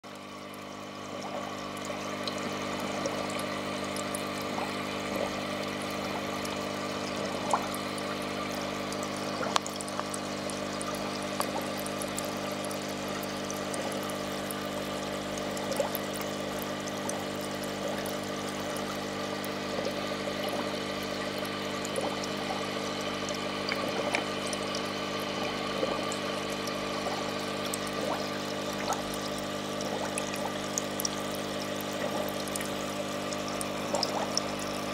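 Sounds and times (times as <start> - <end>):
aquarium water trickling and bubbling: 0.0 - 34.9
hum of tank equipment: 0.0 - 34.9.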